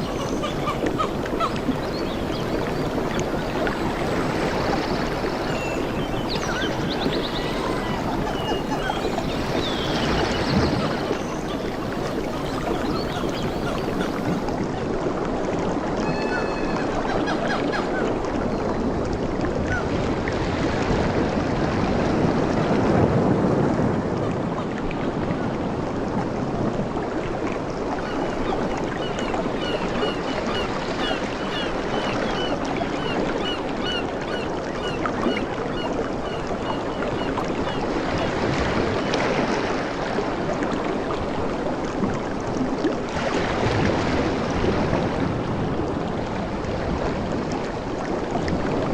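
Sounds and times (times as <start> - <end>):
ocean waves washing: 0.0 - 48.9.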